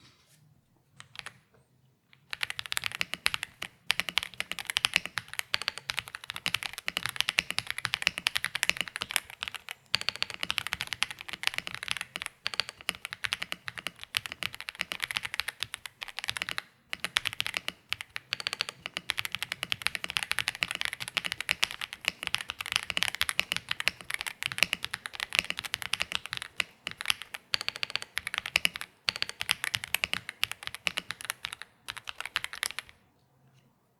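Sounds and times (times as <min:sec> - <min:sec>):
fast typing on mechanical keyboard: 0:01.0 - 0:01.4, 0:02.2 - 0:33.0.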